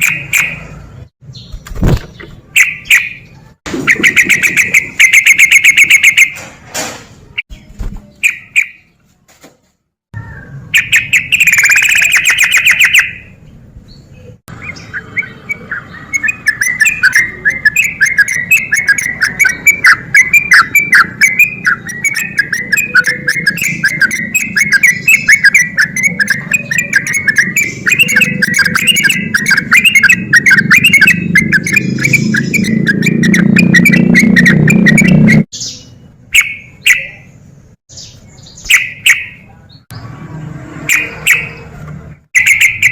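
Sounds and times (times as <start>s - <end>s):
bird singing: 0.0s - 6.4s, 10.2s - 40.1s, 42.4s - 42.9s.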